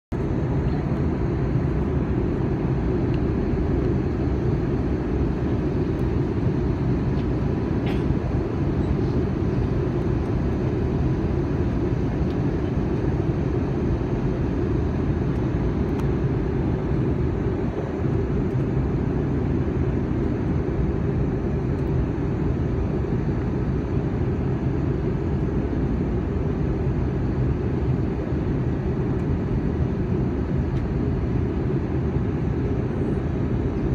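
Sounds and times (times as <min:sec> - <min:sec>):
airliner cabin engine rumble: 0:00.1 - 0:33.9.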